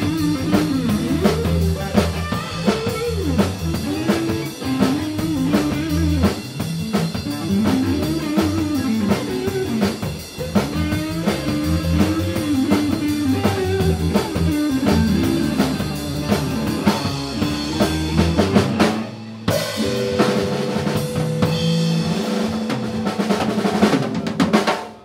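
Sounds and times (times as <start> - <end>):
drum kit hits: 0.0 - 25.0
live rock band playing: 0.0 - 25.0.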